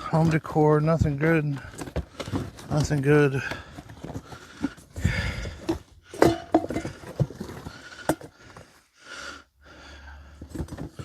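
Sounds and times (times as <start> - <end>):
objects clattering in cardboard box: 0.0 - 8.8, 10.2 - 11.0.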